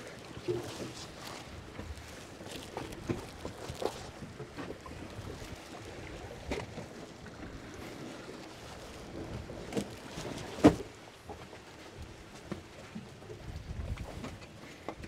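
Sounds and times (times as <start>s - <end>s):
water slapping boat: 0.0s - 15.0s
wind: 0.0s - 15.0s.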